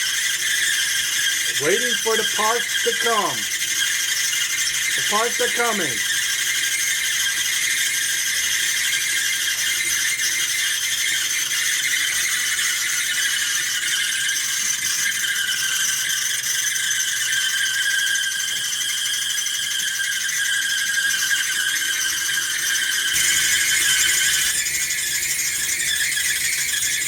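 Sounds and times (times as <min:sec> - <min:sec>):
clothes dryer squealing: 0:00.0 - 0:27.0.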